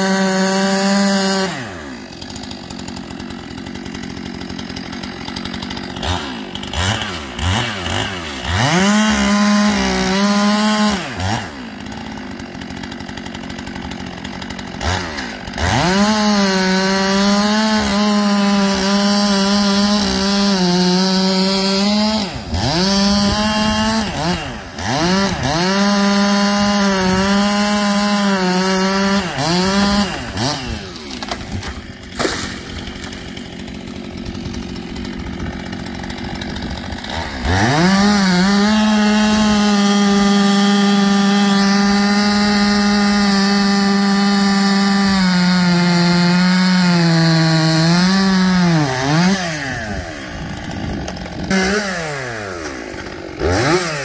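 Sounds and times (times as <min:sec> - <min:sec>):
chainsaw cutting at full throttle: 0:00.0 - 0:54.0
chainsaw idling: 0:00.0 - 0:54.0.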